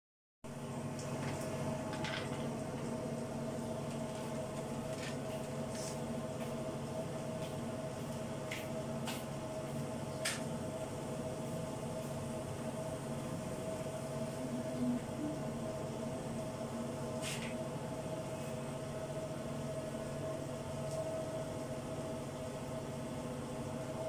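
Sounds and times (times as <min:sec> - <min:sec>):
steady machine hum: 0:00.5 - 0:24.0.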